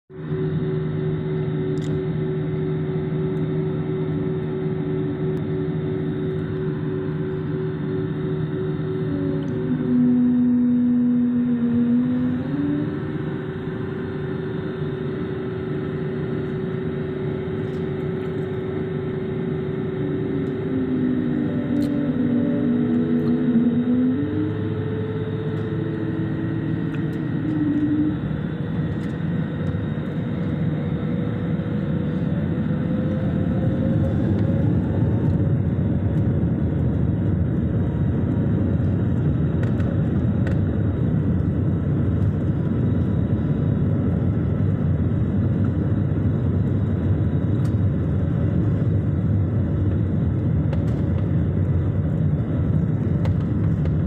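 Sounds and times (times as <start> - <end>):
jet engines rumbling: 0.1 - 54.0.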